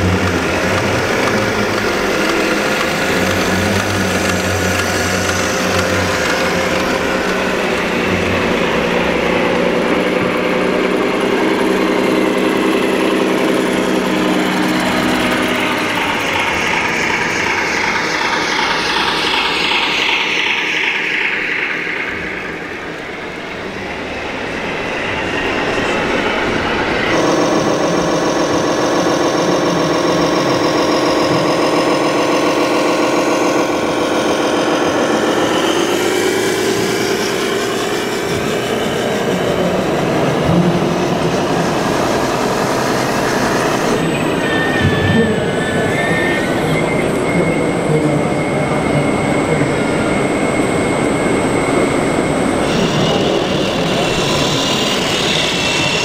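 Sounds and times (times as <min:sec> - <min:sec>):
crowd chatter: 0:00.0 - 0:56.0
engine idling: 0:00.0 - 0:56.0
long falling whine: 0:00.0 - 0:56.0
model truck diesel engine: 0:00.0 - 0:56.0.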